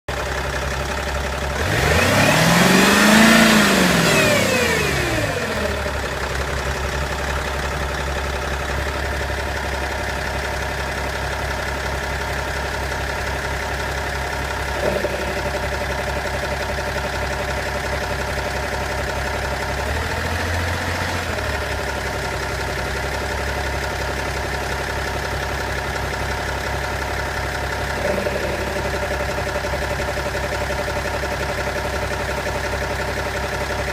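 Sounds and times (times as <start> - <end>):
diesel engine revving and idling: 0.1 - 33.9.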